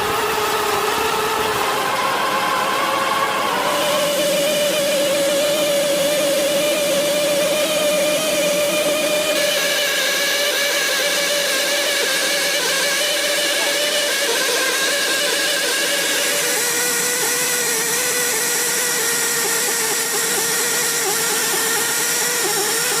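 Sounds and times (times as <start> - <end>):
power tool motor running: 0.0 - 23.0.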